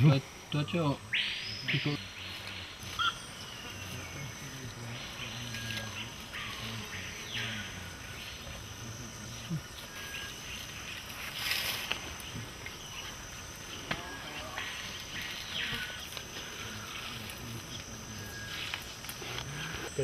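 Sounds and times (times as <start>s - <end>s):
insects droning: 0.0s - 20.0s
loud insect buzz: 0.0s - 20.0s.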